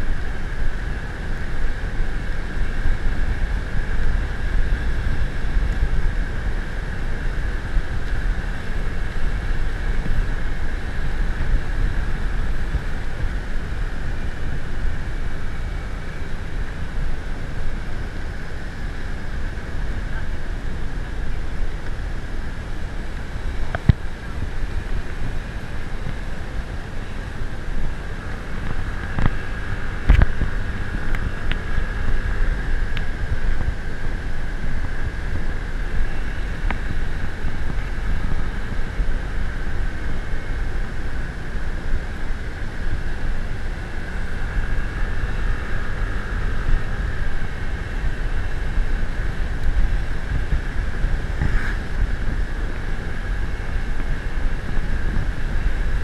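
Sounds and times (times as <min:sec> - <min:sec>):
vehicle engine and travel noise: 0:00.0 - 0:56.0
wind buffeting microphone: 0:00.0 - 0:56.0.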